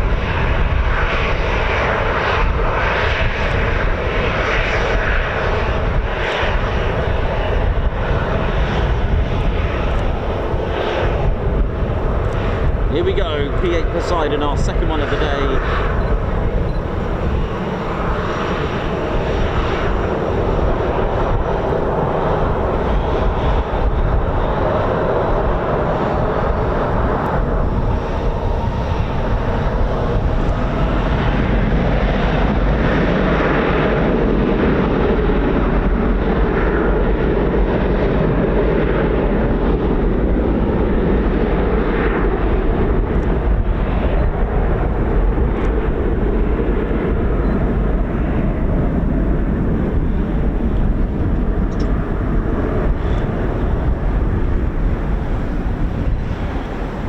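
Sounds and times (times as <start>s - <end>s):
jet engines running loudly: 0.0s - 57.0s
wind rumbling on microphone: 0.0s - 57.0s.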